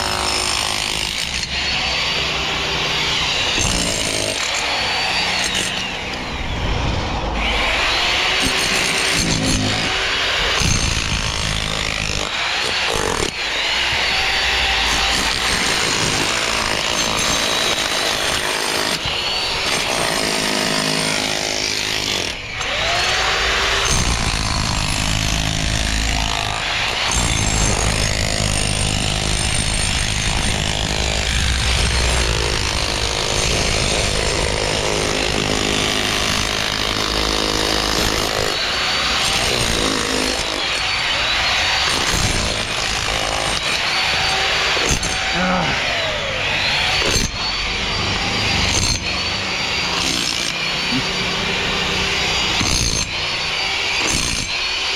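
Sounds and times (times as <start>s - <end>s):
power tool cutting: 0.0s - 54.9s.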